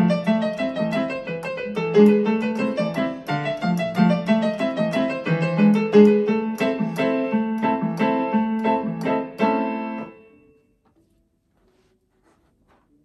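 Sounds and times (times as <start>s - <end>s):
electronic keyboard piano playing: 0.0s - 10.6s.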